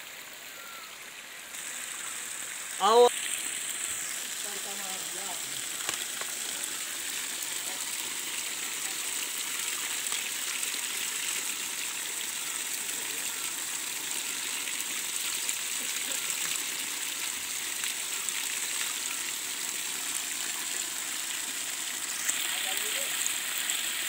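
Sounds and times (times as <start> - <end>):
water pouring and splashing: 0.0 - 24.0.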